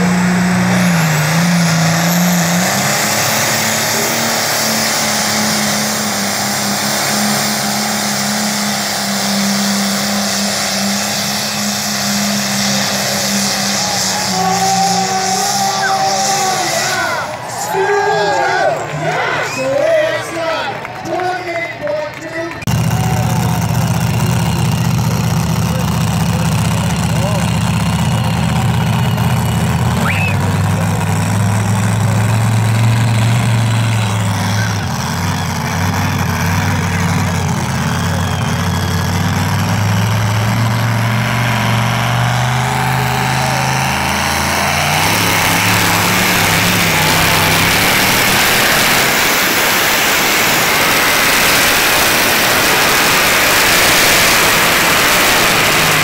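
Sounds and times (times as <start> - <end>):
tractor engine revving: 0.0 - 56.0.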